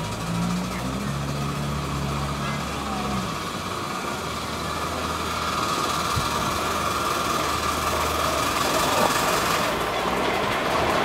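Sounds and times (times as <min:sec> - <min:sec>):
miniature steam locomotive running: 0:00.0 - 0:11.0.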